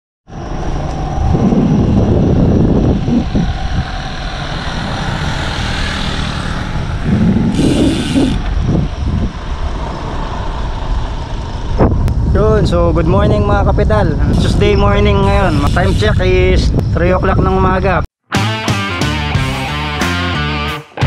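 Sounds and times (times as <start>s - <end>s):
wind buffeting microphone: 0.3s - 18.0s.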